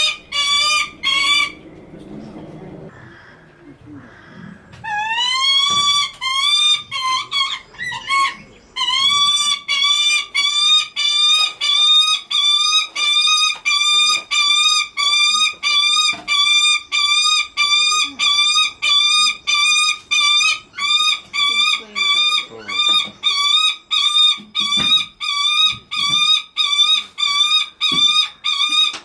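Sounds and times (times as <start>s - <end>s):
falcon calling: 0.0s - 3.4s, 4.0s - 29.0s.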